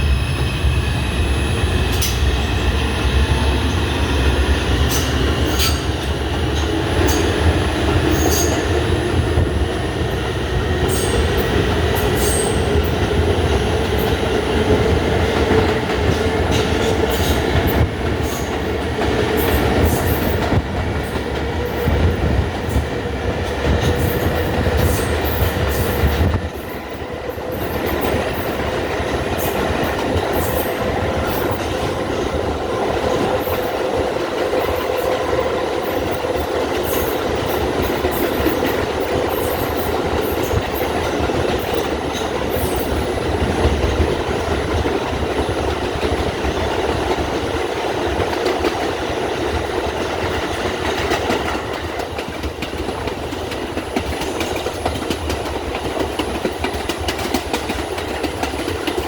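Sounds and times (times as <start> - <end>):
subway train wheel rumble: 0.0 - 59.0.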